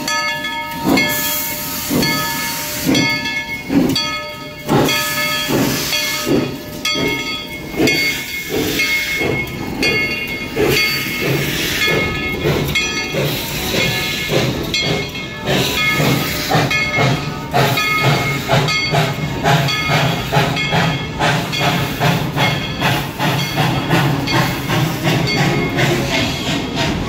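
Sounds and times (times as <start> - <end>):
steam hissing: 0.0 - 27.0
steam locomotive chuffing: 0.0 - 27.0.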